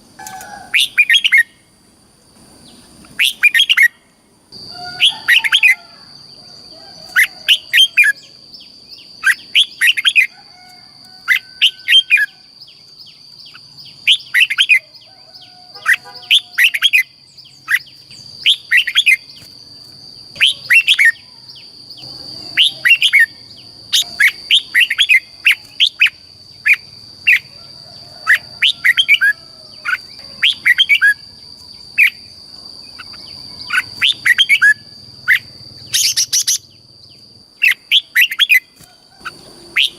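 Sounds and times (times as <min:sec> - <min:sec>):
bulbul singing: 0:02.6 - 0:39.9.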